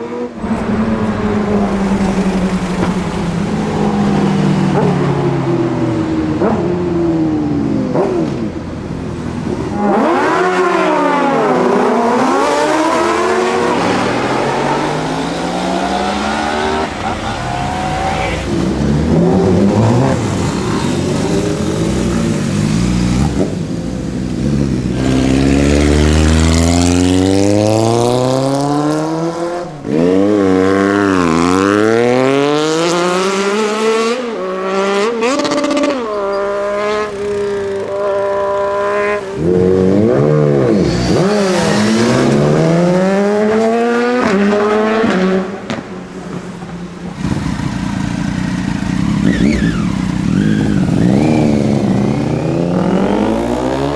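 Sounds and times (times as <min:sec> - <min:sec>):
motorcycle engines accelerating: 0:00.0 - 0:53.9
motorcycles passing by: 0:00.0 - 0:53.9.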